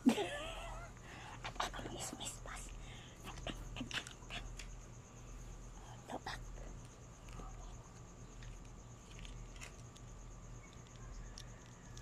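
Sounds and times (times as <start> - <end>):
crickets trilling: 0.0 - 12.0
low steady hum: 0.0 - 12.0.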